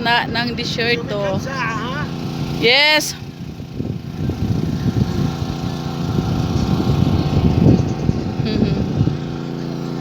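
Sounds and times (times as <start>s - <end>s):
generator engine droning: 0.0s - 10.0s.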